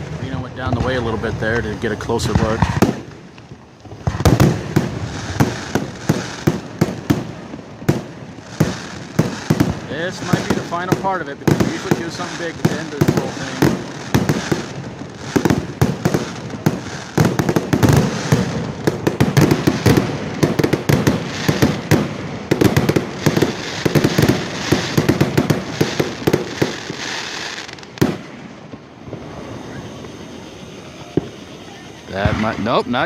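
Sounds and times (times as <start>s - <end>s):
fireworks bursting and crackling: 0.0s - 33.0s.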